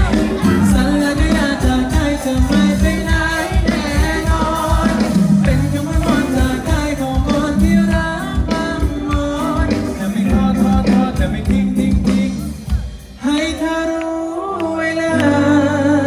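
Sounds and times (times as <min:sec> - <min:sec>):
band with electric guitars: 0:00.0 - 0:16.0
man singing into a microphone: 0:00.0 - 0:16.0.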